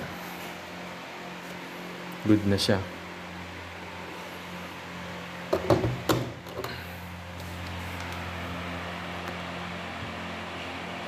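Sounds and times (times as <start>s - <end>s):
tumble dryer humming: 0.0s - 11.0s.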